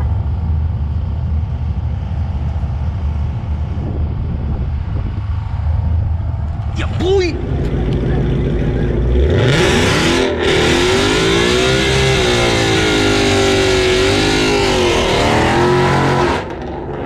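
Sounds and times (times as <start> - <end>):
racing car engine at full throttle: 0.0 - 17.0.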